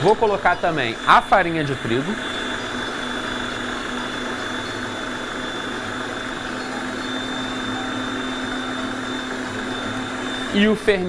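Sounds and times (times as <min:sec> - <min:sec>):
stand mixer motor hum: 0:00.0 - 0:11.0.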